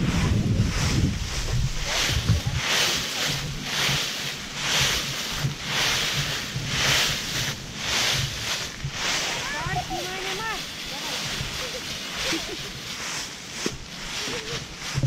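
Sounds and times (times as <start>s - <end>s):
footsteps through dry leaves: 0.0s - 15.0s.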